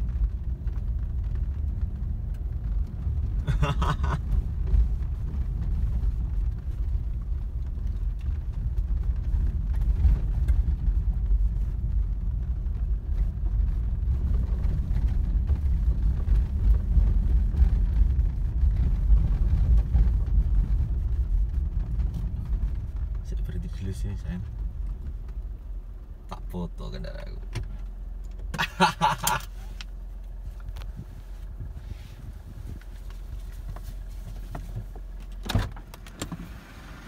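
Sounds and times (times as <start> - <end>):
tyres rumbling on gravel: 0.0 - 37.0.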